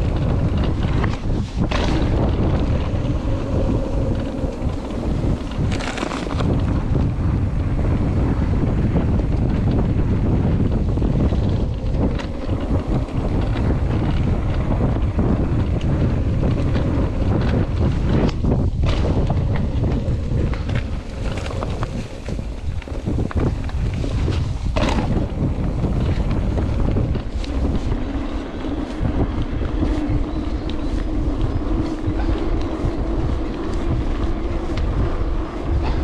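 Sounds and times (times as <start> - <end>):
e-bike motor whine: 0.0 - 36.0
wind buffeting microphone: 0.0 - 36.0.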